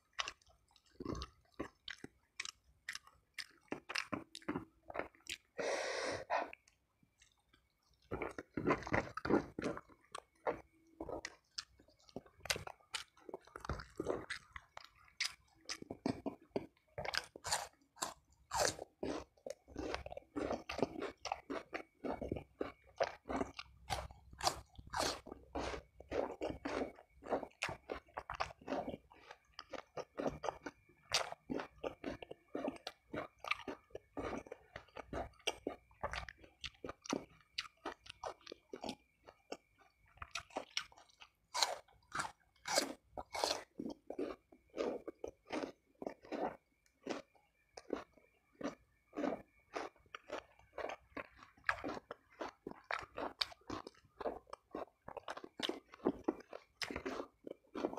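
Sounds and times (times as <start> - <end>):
chewing with crisp crunches: 0.0 - 57.9.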